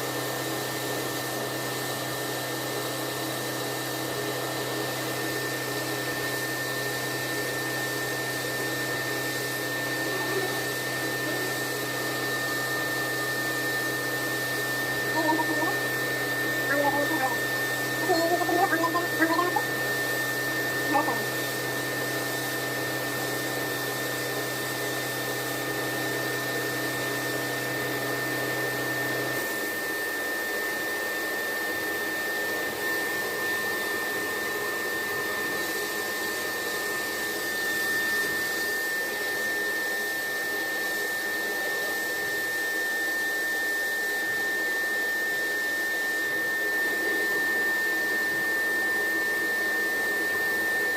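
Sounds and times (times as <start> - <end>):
cutting machine whine: 0.0 - 50.9.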